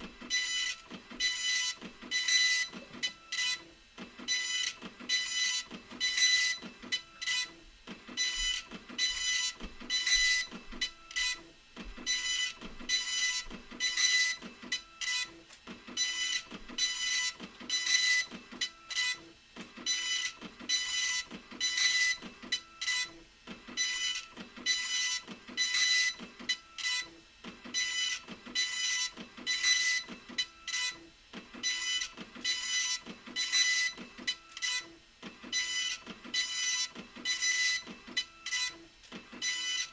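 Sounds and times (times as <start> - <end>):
dot-matrix printer print head buzzing: 0.0 - 39.9.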